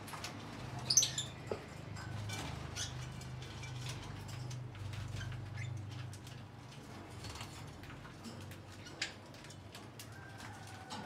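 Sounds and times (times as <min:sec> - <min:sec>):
birds scratching and rustling: 0:00.0 - 0:11.0.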